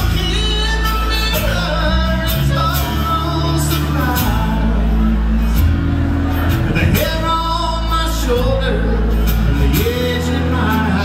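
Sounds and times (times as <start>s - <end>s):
acoustic and electric guitars: 0.0s - 11.0s
electric bass: 0.0s - 11.0s.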